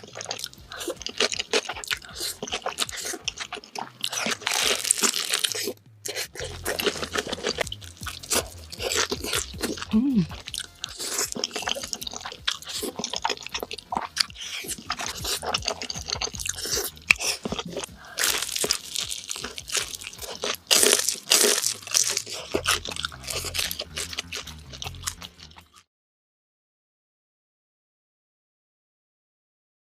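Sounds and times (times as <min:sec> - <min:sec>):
crunchy bites and chewing: 0:00.0 - 0:25.8
wet mouth noises: 0:00.0 - 0:25.8.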